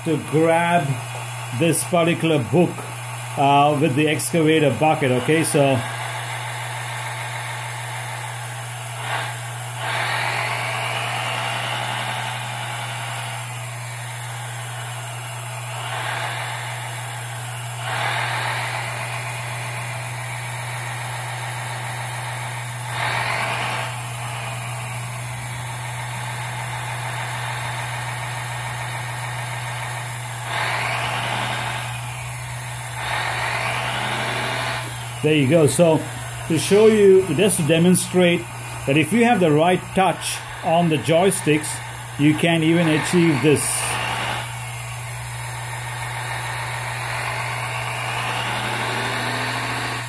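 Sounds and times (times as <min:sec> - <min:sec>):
hydraulic pump humming: 0:00.0 - 0:50.0
hydraulic valve hissing: 0:00.0 - 0:50.0.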